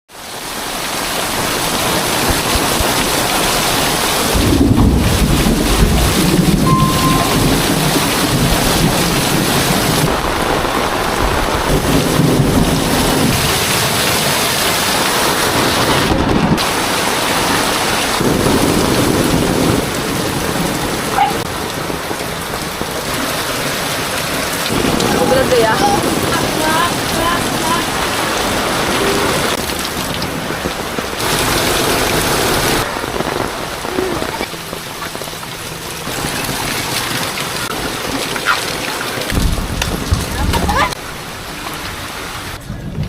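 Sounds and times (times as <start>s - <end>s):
heavy rain pouring: 0.1s - 43.0s
low rumbling: 3.4s - 38.5s, 39.1s - 43.0s.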